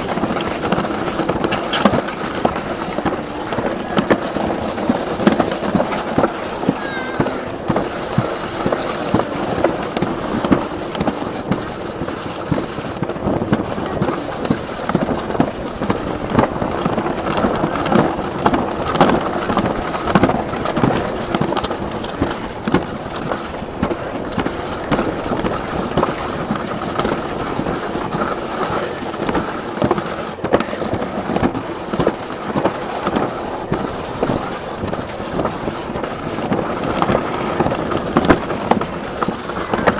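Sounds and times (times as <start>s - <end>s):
sled rattling on track: 0.0s - 39.9s.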